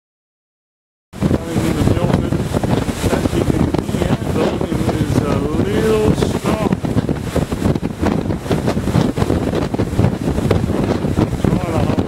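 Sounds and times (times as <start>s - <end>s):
strong wind buffeting microphone: 1.2s - 12.0s.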